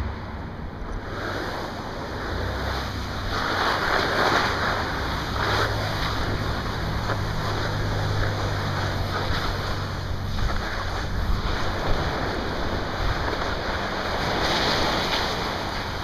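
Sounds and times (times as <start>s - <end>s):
low rumble: 0.0s - 14.4s
surf: 0.0s - 16.0s
wind on microphone: 0.0s - 16.0s.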